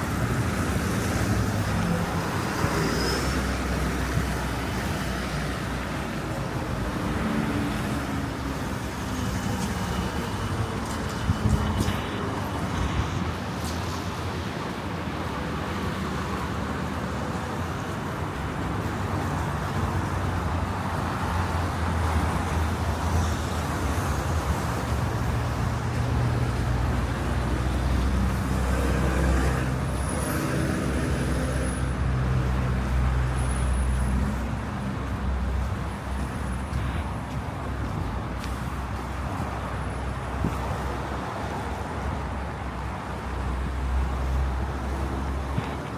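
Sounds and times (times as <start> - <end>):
cars passing: 0.0 - 45.9.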